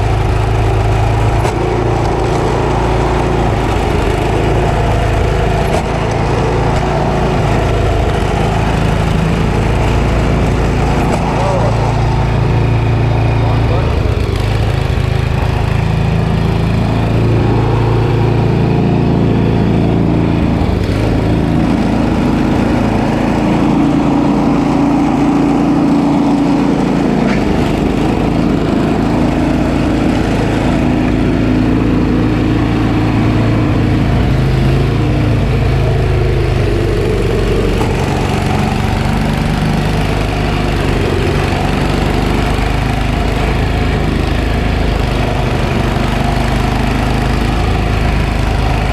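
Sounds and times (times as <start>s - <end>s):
snowblower engine running: 0.0s - 48.9s.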